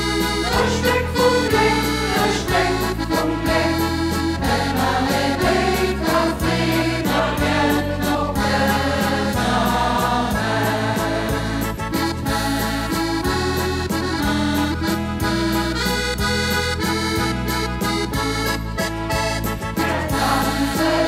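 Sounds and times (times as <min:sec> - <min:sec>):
instrumental backing: 0:00.0 - 0:21.0.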